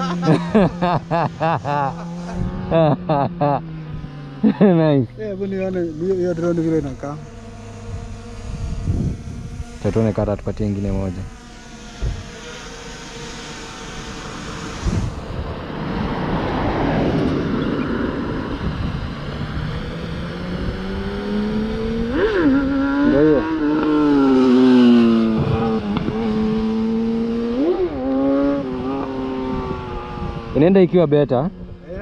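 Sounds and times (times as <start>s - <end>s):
drone motors whining: 0.0s - 32.0s
noisy rush: 4.8s - 32.0s.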